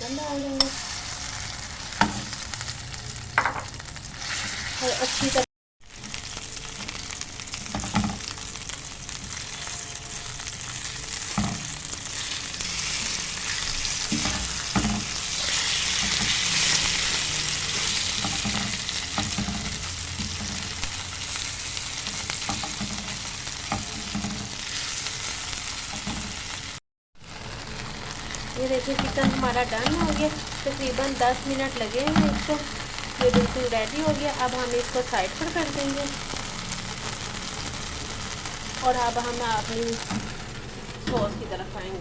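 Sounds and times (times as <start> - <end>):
chicken sizzling in a pan: 0.0 - 41.9.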